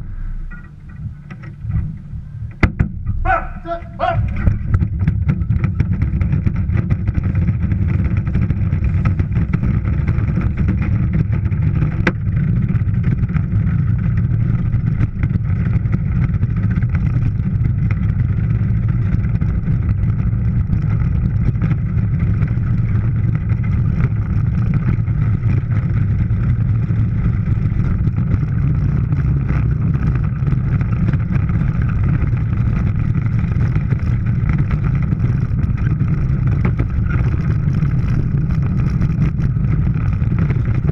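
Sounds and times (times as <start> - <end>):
sled hull rattling: 0.0 - 40.9
sled runners rumbling on ice: 0.0 - 40.9.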